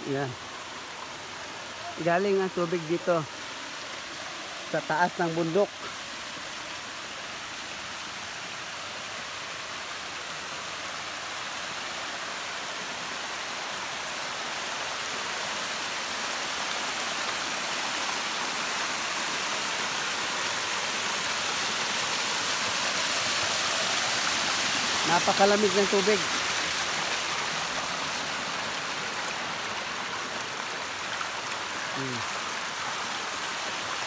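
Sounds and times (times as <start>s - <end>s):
water cascading over rocks: 0.0s - 34.0s.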